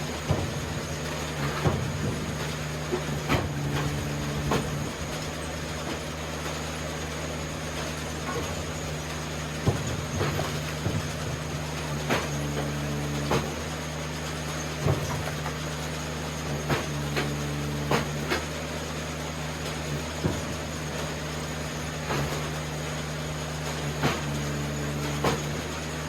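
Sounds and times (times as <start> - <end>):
hydraulic wood splitter running: 0.0 - 26.0.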